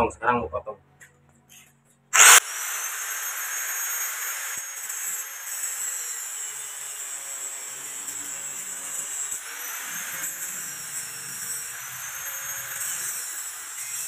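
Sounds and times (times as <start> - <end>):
angle grinder cutting steel: 2.2 - 14.0.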